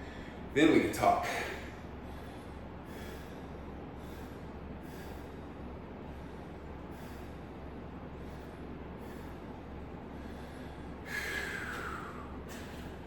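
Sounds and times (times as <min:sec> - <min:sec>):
low background hum: 0:00.0 - 0:13.0
man breathing hard: 0:01.3 - 0:13.0.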